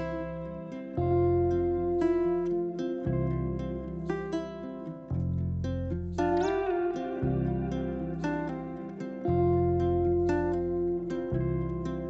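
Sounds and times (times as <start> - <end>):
low bass line: 0.0 - 12.0
plucked string notes: 0.0 - 12.0.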